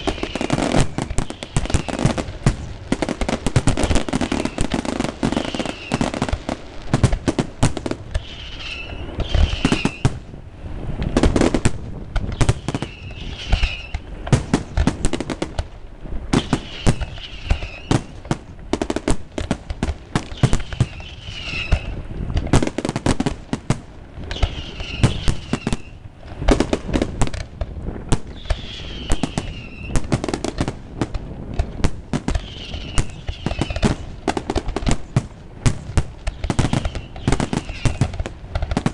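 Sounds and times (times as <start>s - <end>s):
high whistling firework: 0.0s - 15.6s, 16.3s - 38.9s
fireworks bangs and crackling: 0.0s - 38.9s.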